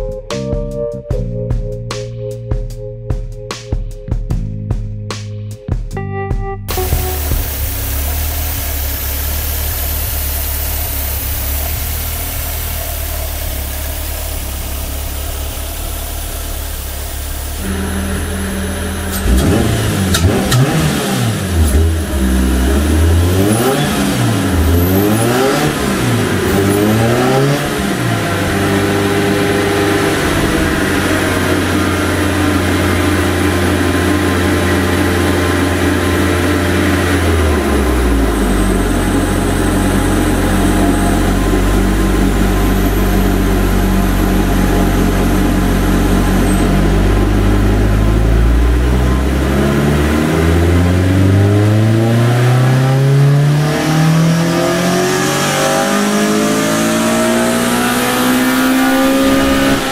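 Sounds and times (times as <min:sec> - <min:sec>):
car engine revving: 0:06.7 - 0:59.9.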